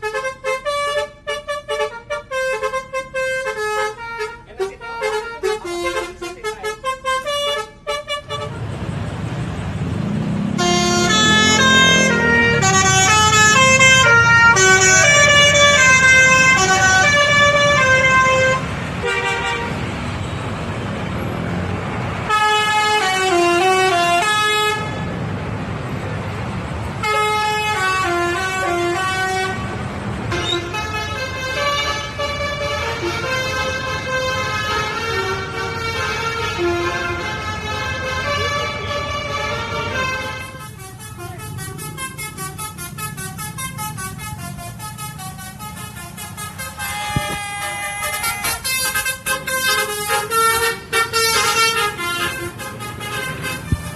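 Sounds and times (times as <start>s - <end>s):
musical bus horn tunes: 0.0s - 8.7s, 10.4s - 20.4s, 22.2s - 25.2s, 26.8s - 53.9s
bus engine running: 0.0s - 53.9s.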